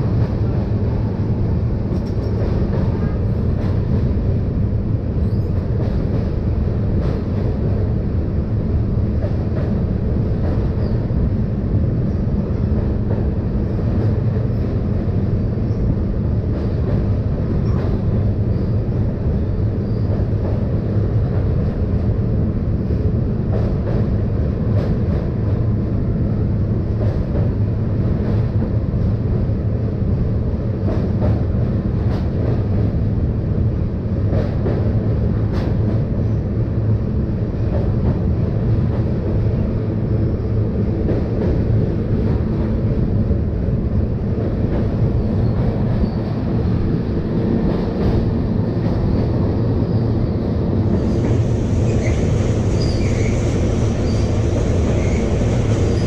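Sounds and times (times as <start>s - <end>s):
train coaches rumbling on track: 0.0s - 56.0s.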